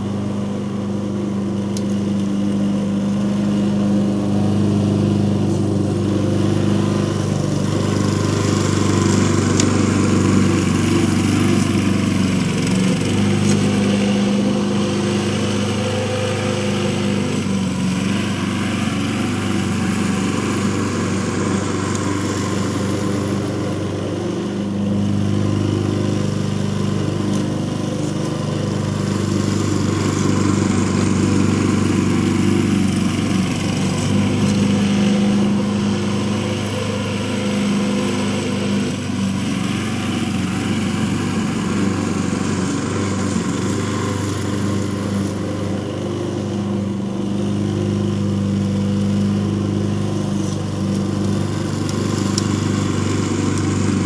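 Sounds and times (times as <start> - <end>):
lawn mower engine cutting grass: 0.0 - 54.0.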